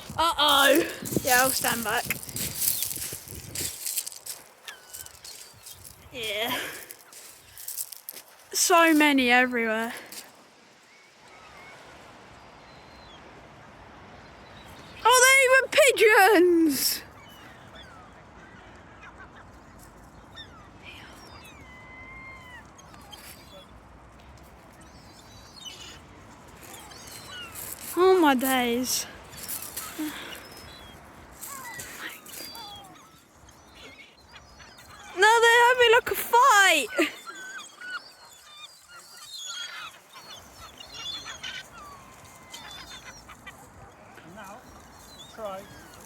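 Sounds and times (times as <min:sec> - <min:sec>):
seagulls calling: 0:00.0 - 0:10.3, 0:14.6 - 0:23.8, 0:24.7 - 0:46.0.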